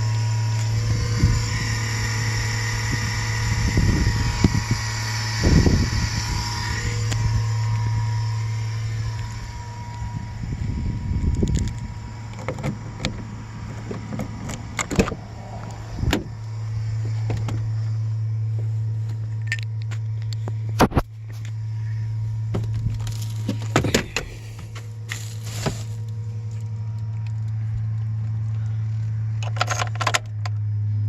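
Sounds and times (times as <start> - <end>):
van low buzz: 0.0 - 31.0.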